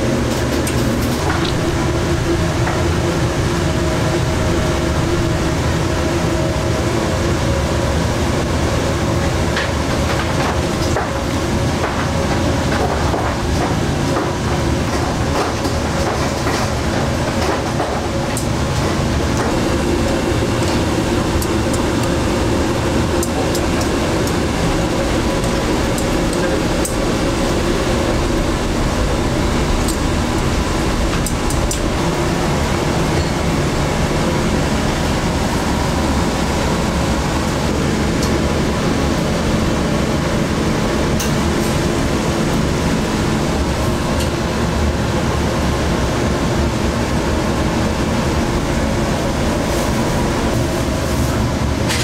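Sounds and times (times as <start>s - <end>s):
gas burners humming: 0.0s - 52.0s.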